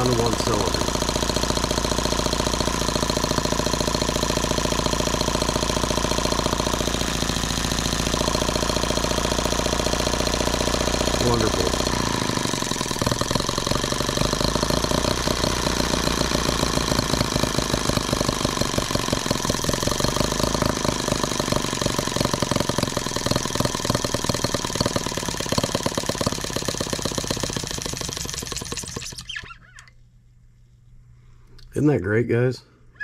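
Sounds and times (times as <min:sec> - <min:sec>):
model engine running: 0:00.0 - 0:29.9.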